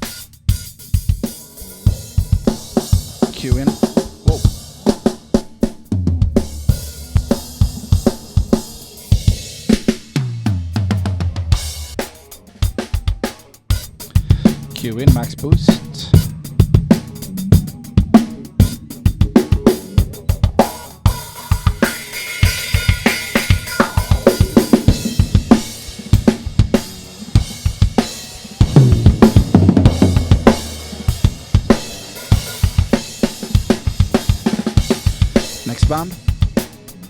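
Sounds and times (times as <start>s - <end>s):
rock drum kit beat: 0.0s - 37.0s.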